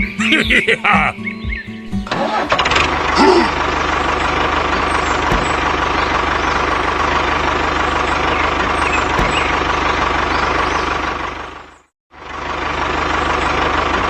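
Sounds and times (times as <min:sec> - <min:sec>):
engine idling: 0:01.9 - 0:14.0.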